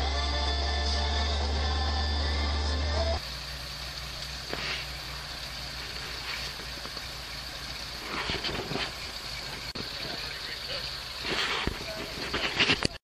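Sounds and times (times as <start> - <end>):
off-road vehicle engine idling: 0.0 - 13.0.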